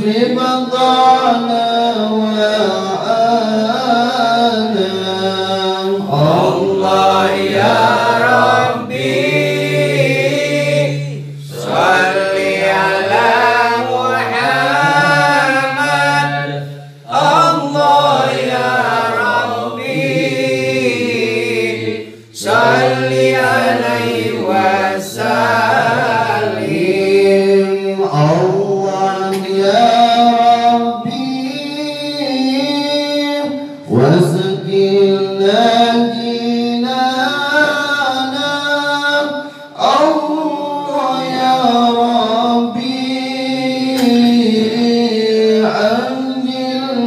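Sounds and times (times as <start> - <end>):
men chanting together: 0.0 - 47.0.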